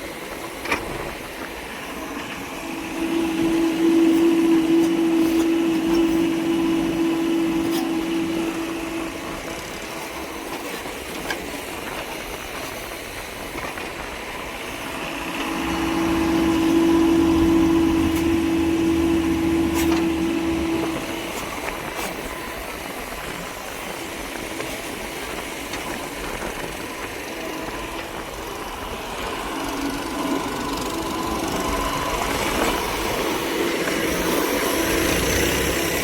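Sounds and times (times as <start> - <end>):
diesel engine droning: 0.1 - 36.0.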